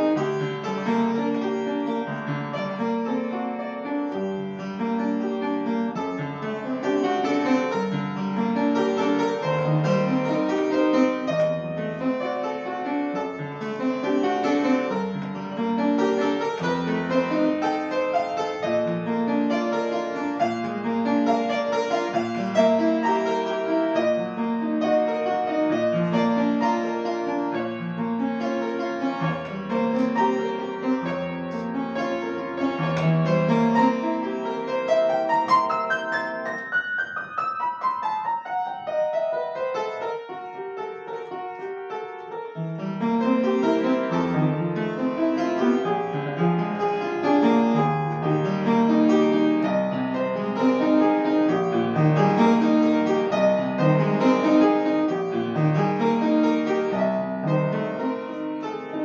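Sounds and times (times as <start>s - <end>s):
solo classical piano: 0.0s - 59.0s.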